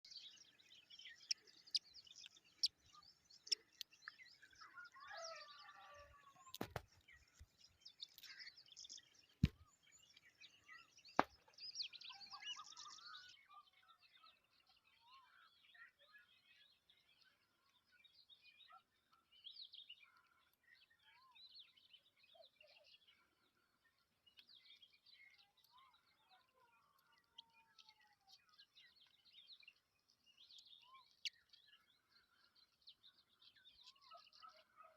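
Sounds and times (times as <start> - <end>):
faint birds chirping: 0.0 - 34.9.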